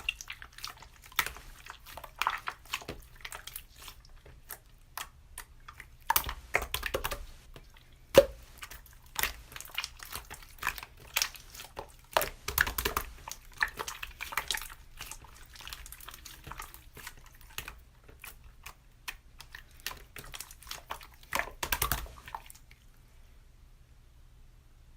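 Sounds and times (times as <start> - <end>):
slime squished by hand: 0.0 - 22.8.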